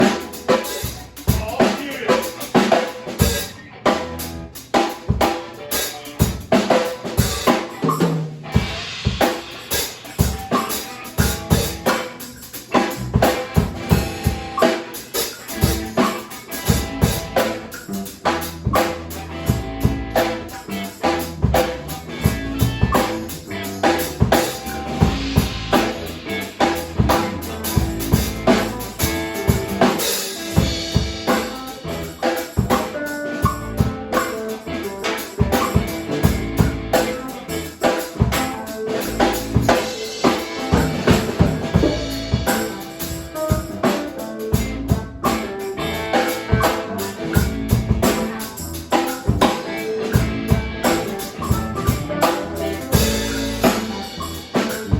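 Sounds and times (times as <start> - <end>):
music with drum-kit beat: 0.0 - 54.9.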